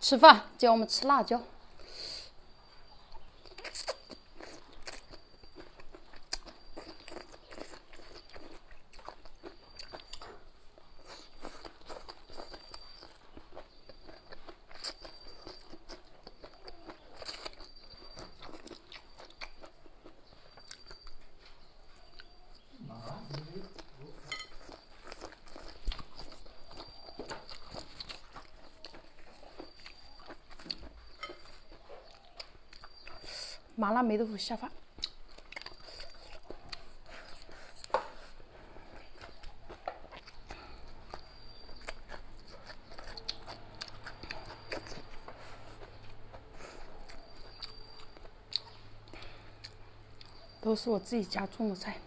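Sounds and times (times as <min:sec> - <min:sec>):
crunching chili peppers: 0:00.9 - 0:52.0
person chewing food: 0:01.7 - 0:33.8, 0:34.7 - 0:50.6.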